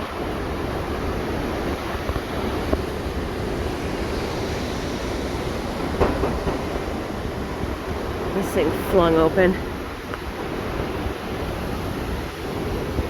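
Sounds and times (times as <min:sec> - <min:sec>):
strong wind blowing: 0:00.0 - 0:13.0.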